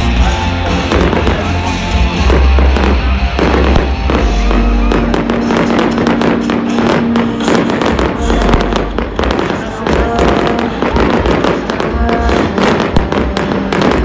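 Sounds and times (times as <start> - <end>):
loud music: 0.0 - 14.0
fireworks bangs and crackling pops: 0.6 - 14.0.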